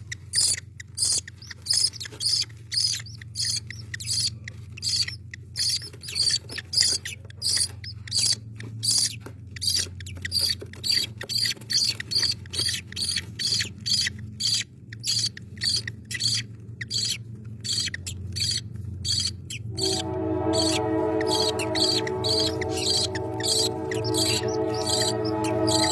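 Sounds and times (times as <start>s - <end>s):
bird chick cheeping: 0.0s - 25.9s
steady low hum: 0.0s - 25.9s.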